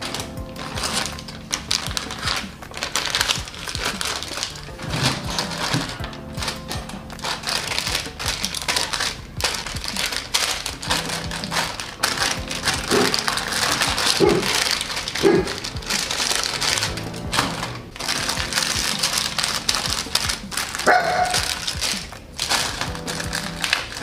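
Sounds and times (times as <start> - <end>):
plastic sachets crinkling: 0.0 - 24.0
sachets dropping into plastic basket: 0.0 - 24.0
soft background music: 0.0 - 24.0.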